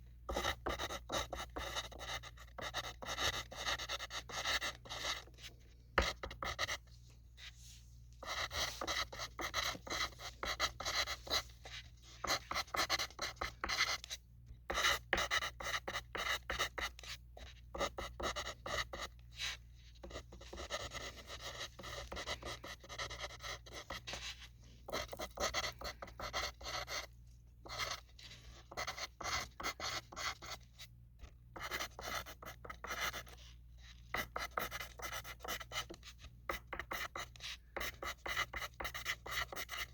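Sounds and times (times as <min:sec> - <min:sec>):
pencil scratching on paper: 0:00.3 - 0:39.9.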